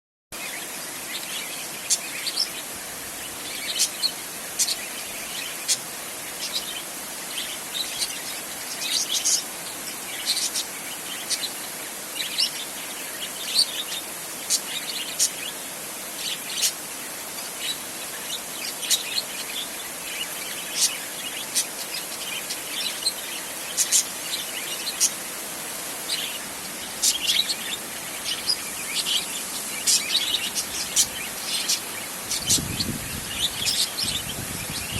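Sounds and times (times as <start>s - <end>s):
rain on a tin roof: 0.4s - 34.8s.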